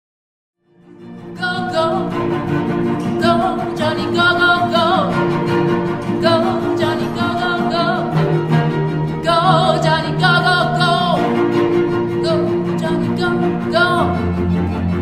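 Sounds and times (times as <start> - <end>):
person singing with vibrato: 1.3 - 14.4.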